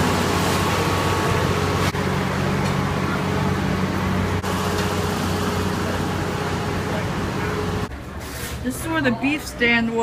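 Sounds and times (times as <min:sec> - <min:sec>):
street noise: 0:00.0 - 0:10.0.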